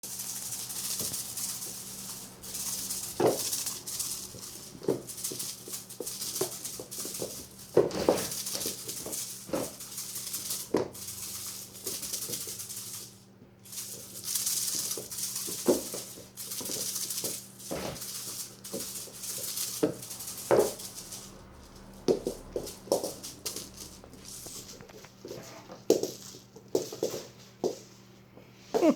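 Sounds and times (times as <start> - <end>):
rustling and rattling bursts: 0.0 - 27.4
steady low hum: 0.0 - 28.9.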